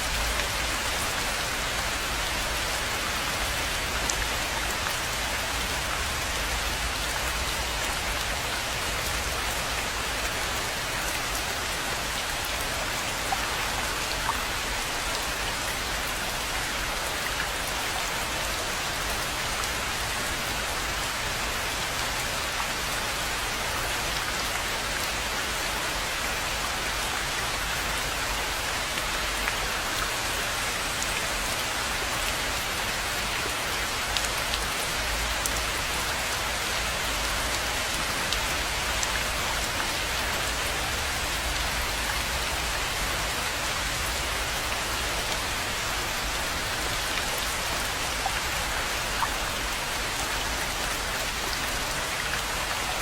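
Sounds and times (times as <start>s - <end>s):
rain falling on a pond: 0.0s - 53.0s.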